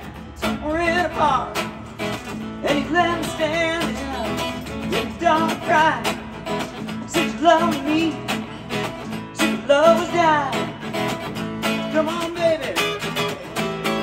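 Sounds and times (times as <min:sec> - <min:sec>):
man singing into a microphone: 0:00.0 - 0:01.8, 0:02.6 - 0:11.0, 0:11.6 - 0:14.0
acoustic guitar strumming: 0:00.0 - 0:14.0.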